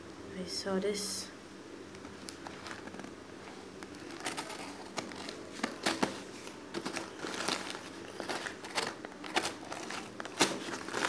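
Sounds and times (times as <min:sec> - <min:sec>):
paper crinkling: 0:02.1 - 0:11.0.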